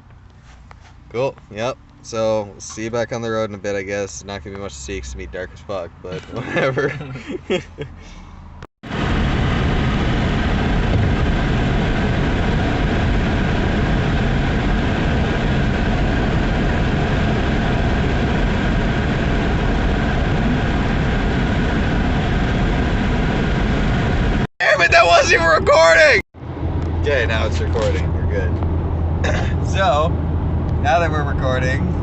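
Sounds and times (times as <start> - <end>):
car cabin road noise: 0.0 - 32.0.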